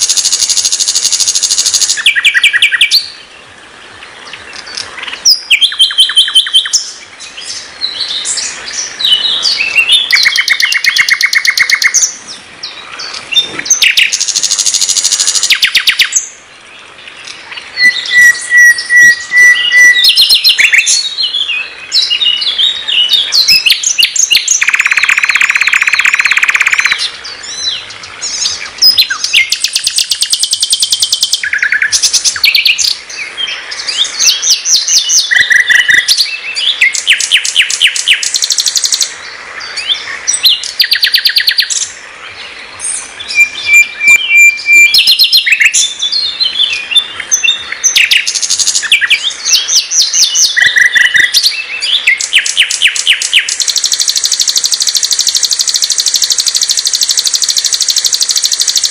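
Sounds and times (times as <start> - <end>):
bird singing trills and whistles: 0.0 - 3.2, 4.3 - 16.4, 17.2 - 58.9.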